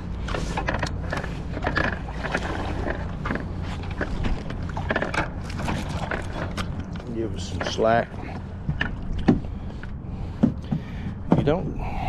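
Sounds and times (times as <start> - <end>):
steady low hum: 0.0 - 12.0
fish thrashing and splashing: 0.1 - 9.8.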